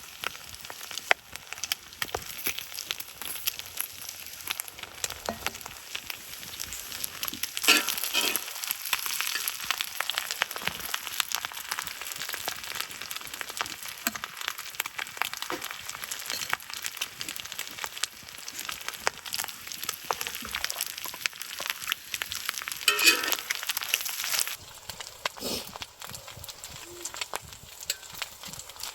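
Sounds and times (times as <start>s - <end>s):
sizzling and crackling: 0.0s - 28.9s.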